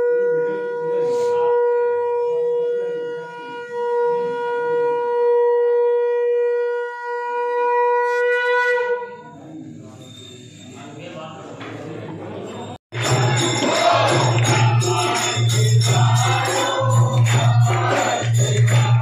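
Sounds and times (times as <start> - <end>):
conch shell blown: 0.0 - 9.4, 12.9 - 19.0.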